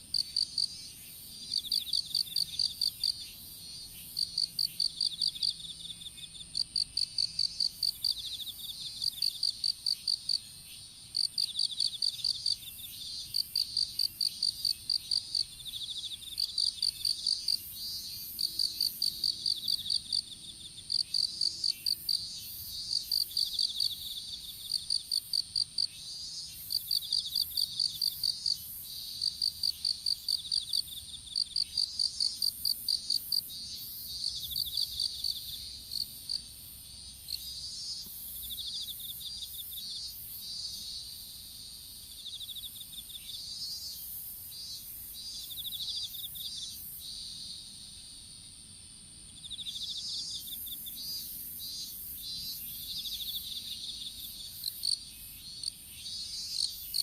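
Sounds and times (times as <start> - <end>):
insect chirping in bursts: 0.1 - 48.6, 49.3 - 57.0.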